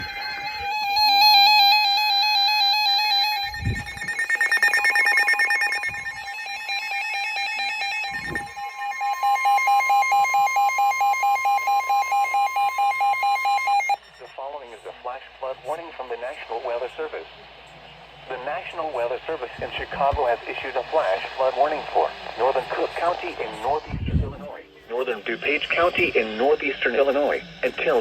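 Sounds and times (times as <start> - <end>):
warbling electronic alarm beeps: 0.0 - 17.1, 18.2 - 28.0
steady warning tone: 0.0 - 28.0.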